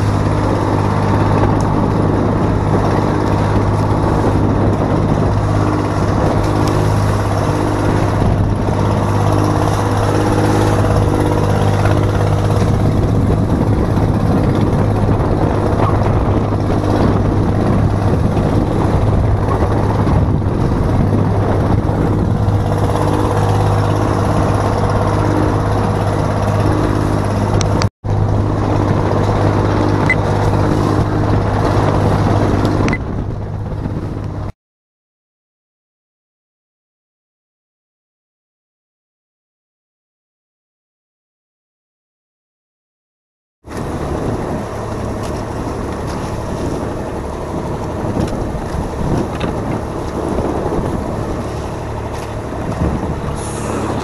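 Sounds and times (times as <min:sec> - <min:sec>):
boat engine humming: 0:00.0 - 0:34.5, 0:43.6 - 0:54.0
water rushing along hull: 0:00.0 - 0:34.5, 0:43.7 - 0:54.0.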